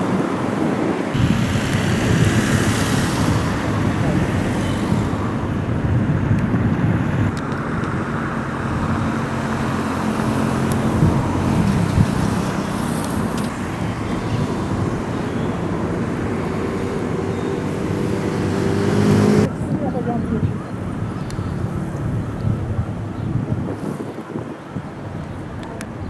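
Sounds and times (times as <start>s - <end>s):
vehicle engine hum: 0.0s - 26.0s
vehicles passing: 0.0s - 26.0s.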